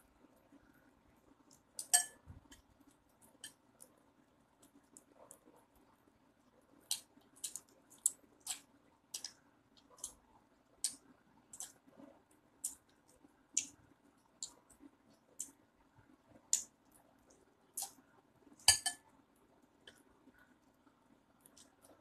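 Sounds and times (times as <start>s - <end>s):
kitten chewing food: 0.1s - 18.8s.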